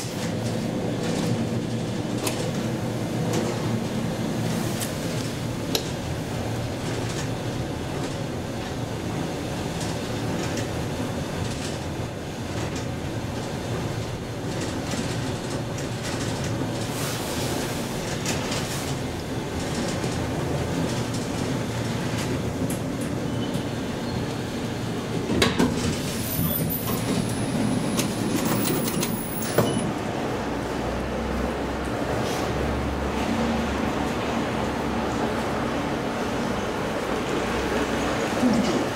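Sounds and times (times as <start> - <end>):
elevator cab rumbling: 0.0 - 38.9.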